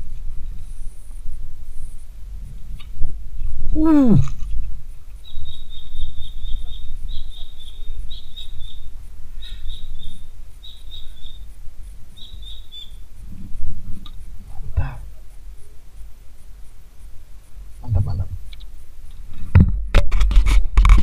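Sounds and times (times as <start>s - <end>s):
steady low rumble: 0.0s - 20.1s
small bird chirping: 0.6s - 19.1s.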